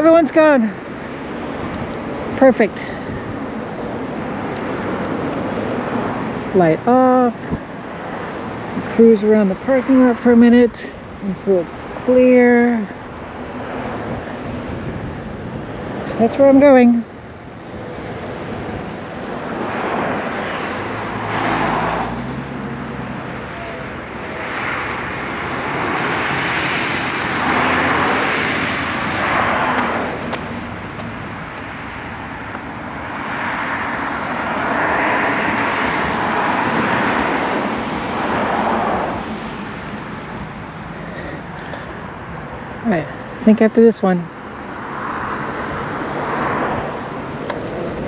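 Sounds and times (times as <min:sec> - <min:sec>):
wind and tyre noise: 0:00.0 - 0:48.0.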